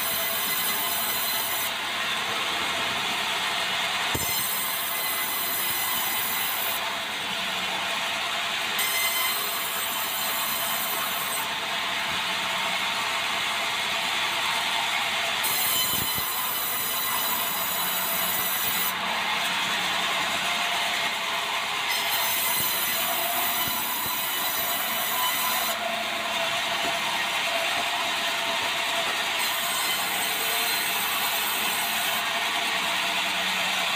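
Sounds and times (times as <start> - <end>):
sawmill saw cutting timber: 0.0 - 33.9.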